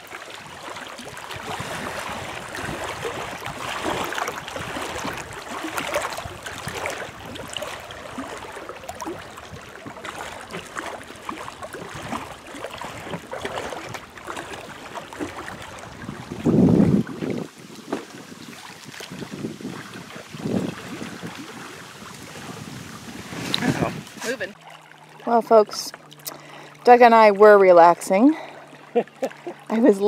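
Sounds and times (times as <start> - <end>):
trickling gurgling water: 0.0 - 30.0
waves lapping against rocks: 0.0 - 30.0.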